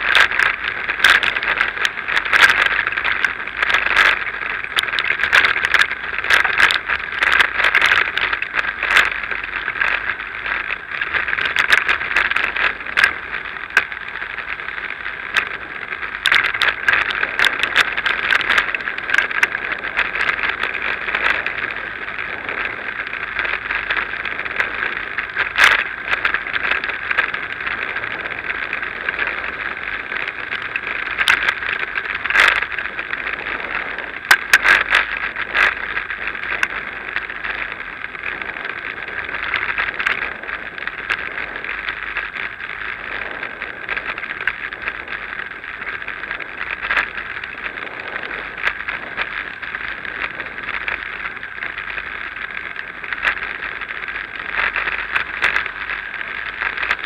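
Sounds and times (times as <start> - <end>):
bike rattling over paving: 0.0 - 57.0.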